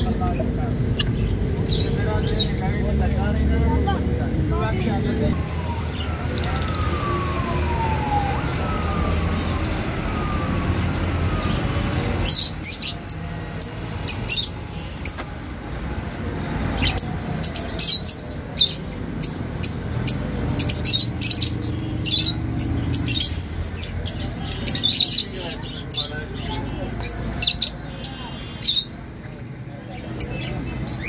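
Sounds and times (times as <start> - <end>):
lovebirds chirping: 0.0 - 3.8, 4.6 - 15.3, 16.6 - 31.0.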